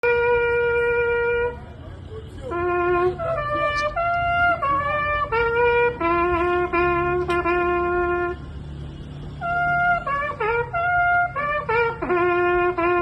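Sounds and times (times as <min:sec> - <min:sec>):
solo trumpet slow tune: 0:00.0 - 0:01.6, 0:02.4 - 0:08.4, 0:09.4 - 0:13.0.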